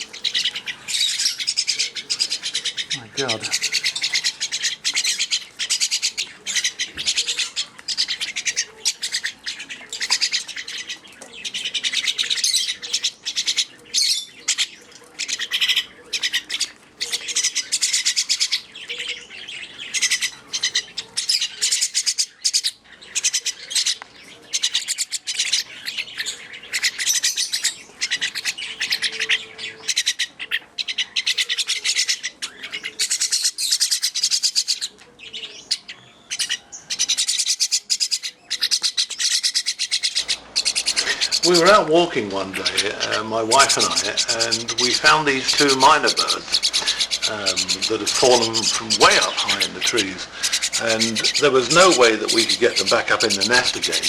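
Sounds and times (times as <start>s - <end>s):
baby birds raspy begging calls: 0.0s - 54.0s.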